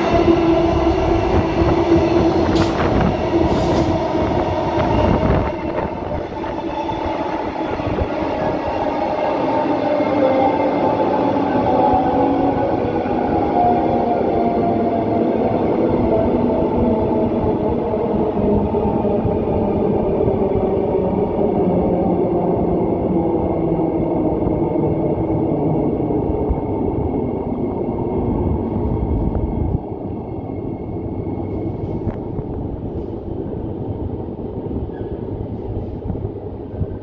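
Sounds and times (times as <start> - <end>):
electric train rumbling: 0.0 - 37.0.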